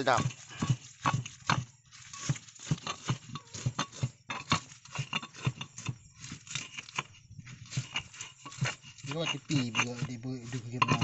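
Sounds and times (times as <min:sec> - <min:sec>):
stone pestle grinding in mortar: 0:00.0 - 0:11.0.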